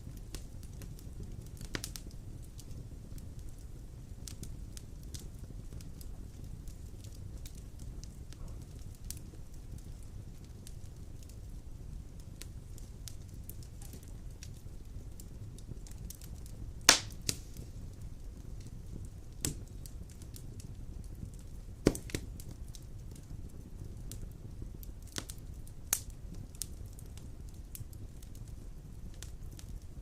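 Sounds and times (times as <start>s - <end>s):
fire popping: 0.0s - 30.0s
wood fire hissing and crackling: 0.0s - 30.0s.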